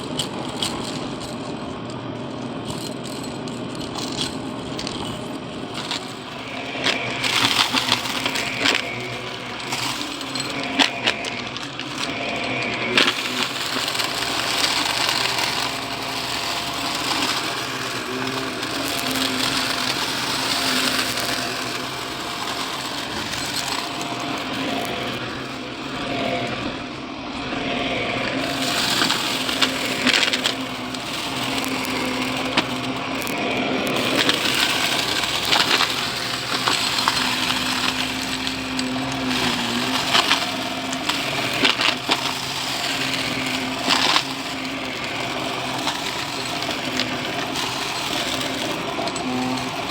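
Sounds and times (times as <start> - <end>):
vacuum cleaner motor hum: 0.0 - 49.9
debris crackling through vacuum: 4.6 - 49.9.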